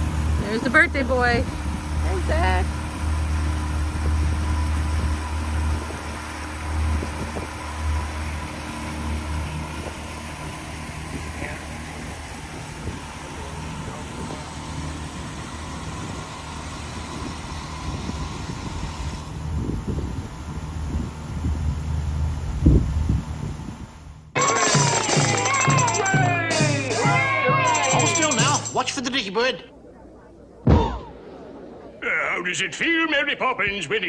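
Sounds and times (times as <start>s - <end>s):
outboard motor droning: 0.0s - 28.8s.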